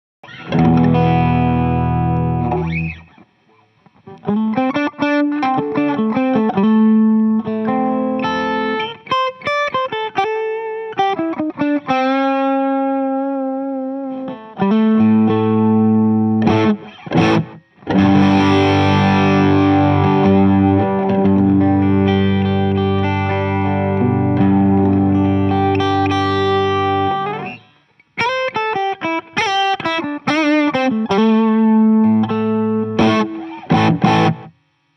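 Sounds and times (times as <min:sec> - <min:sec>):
overdriven electric guitar: 0:00.2 - 0:34.9.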